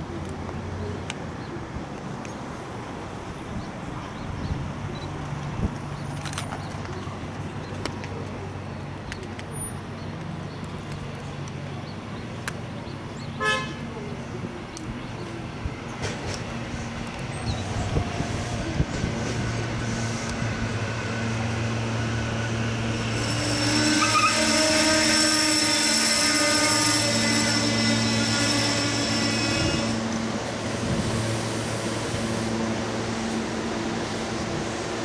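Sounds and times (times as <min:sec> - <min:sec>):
train passing on rails: 0:00.0 - 0:35.0.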